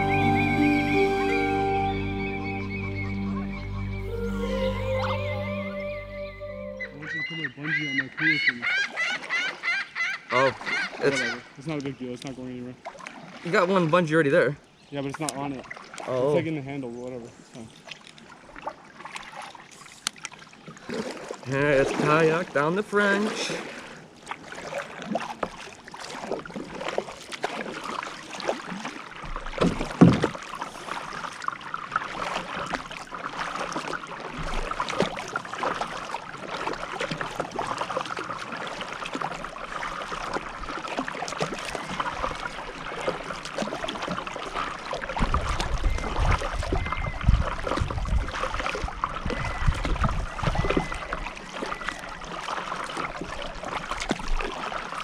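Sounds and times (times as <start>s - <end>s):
water washing along hull: 0.0s - 3.3s, 8.1s - 55.0s
paddle splashing water: 0.0s - 55.0s.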